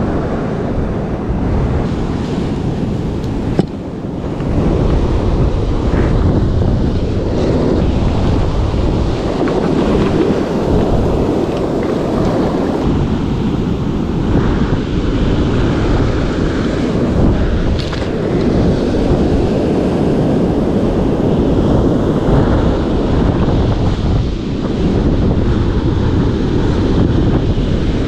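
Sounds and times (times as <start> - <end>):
ocean surf washing: 0.0 - 28.0
wind buffeting microphone: 0.0 - 28.0.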